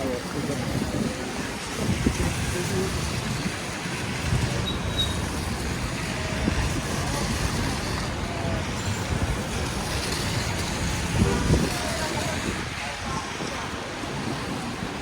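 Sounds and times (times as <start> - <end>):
passing traffic: 0.0 - 15.0.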